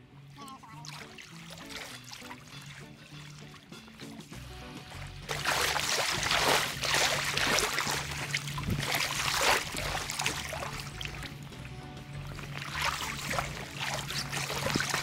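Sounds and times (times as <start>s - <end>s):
river water splashing: 0.2s - 15.0s.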